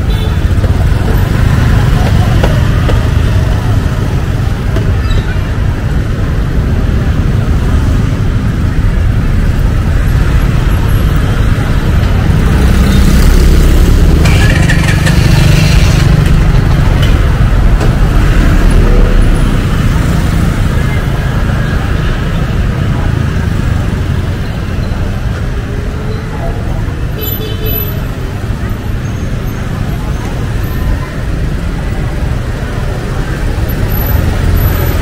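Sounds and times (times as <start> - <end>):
motorbikes and cars rumbling: 0.0 - 35.0.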